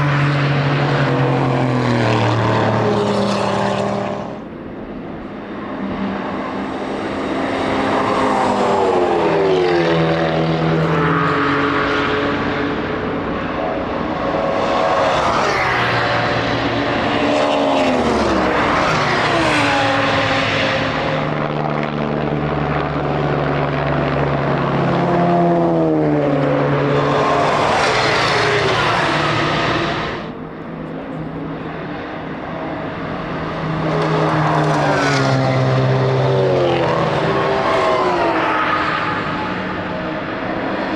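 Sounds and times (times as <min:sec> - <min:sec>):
race cars passing at speed: 0:00.0 - 0:40.9.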